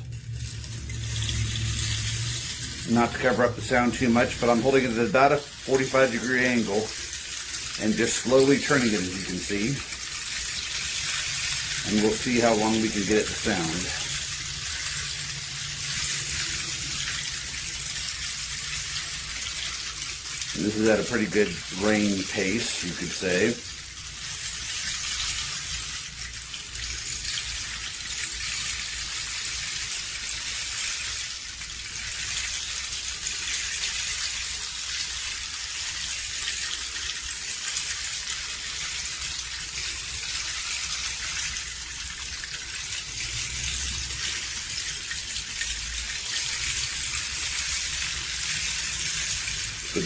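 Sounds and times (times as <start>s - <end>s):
rain stick hissing: 0.0s - 50.0s.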